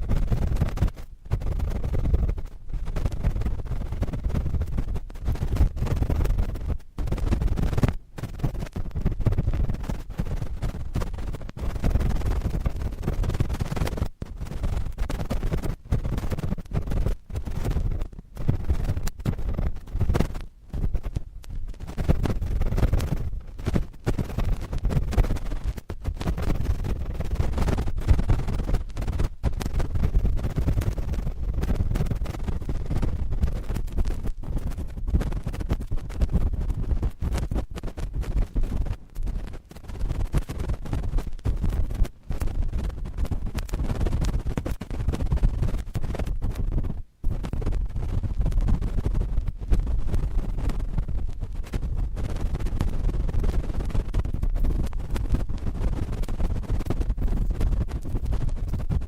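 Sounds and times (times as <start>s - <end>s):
cotton swabs scratching microphone: 0.0s - 59.0s.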